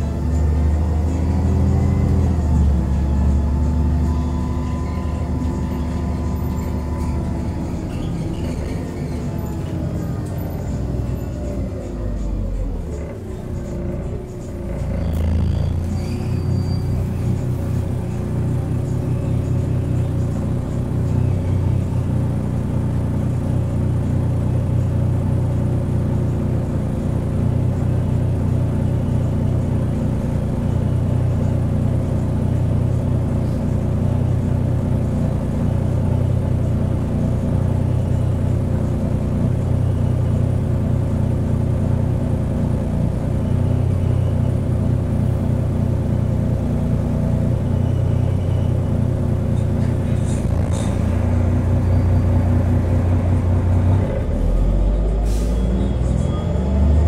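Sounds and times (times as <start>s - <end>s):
bus diesel engine rumbling: 0.0s - 57.0s.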